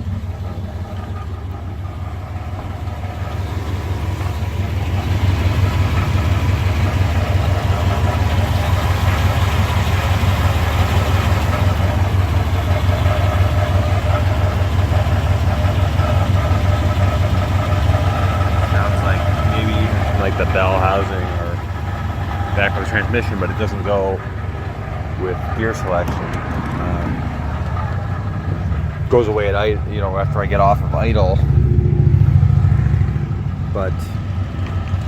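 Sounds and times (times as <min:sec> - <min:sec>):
pickup engine idling: 0:00.0 - 0:35.0.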